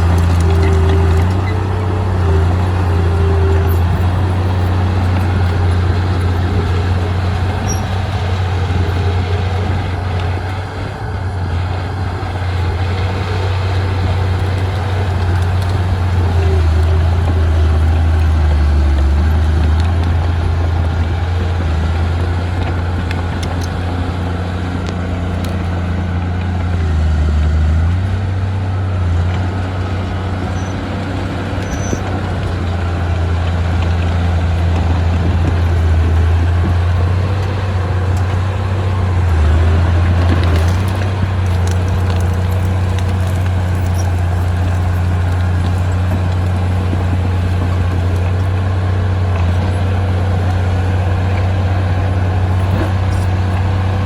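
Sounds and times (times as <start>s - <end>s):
heavy machinery diesel engine drone: 0.0s - 54.0s.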